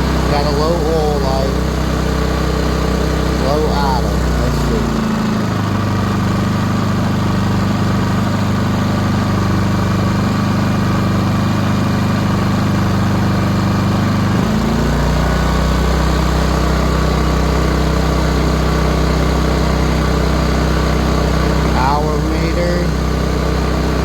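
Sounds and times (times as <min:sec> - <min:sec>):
generator engine running: 0:00.0 - 0:24.0.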